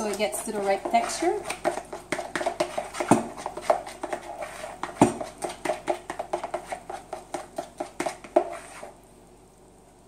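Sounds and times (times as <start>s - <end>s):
spoon knocking in plastic bowl: 0.0s - 8.7s.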